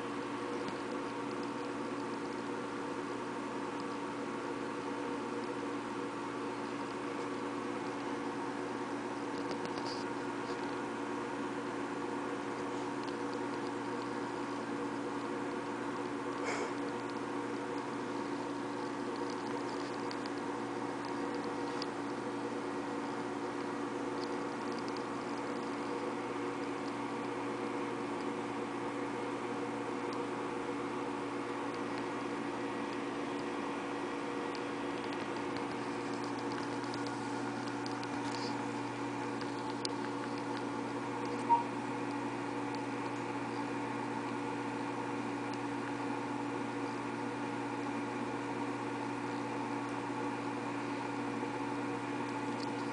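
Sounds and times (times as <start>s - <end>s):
steady hum of held tones: 0.0s - 52.9s.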